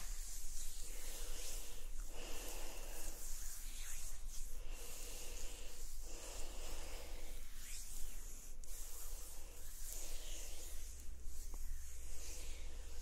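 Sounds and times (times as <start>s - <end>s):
oiled hands rubbing skin: 0.0s - 13.0s.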